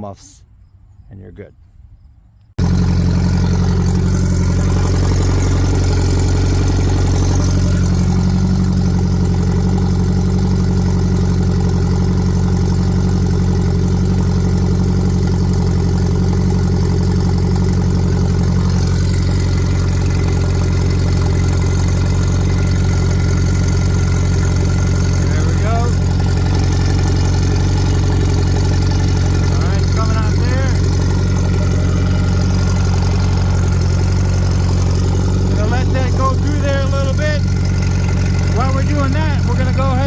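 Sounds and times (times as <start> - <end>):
boat engine idling: 2.6 - 40.0.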